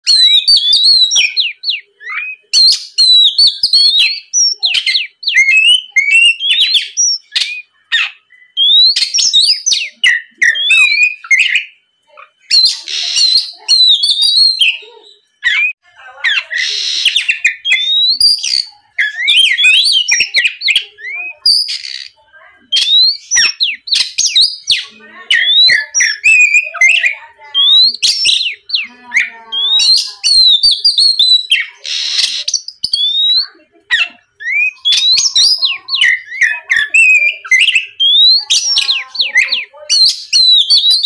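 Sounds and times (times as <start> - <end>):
bird singing whistled notes: 0.0 - 11.8, 12.4 - 15.8, 16.4 - 41.0
harsh raspy bird call: 0.0 - 41.0.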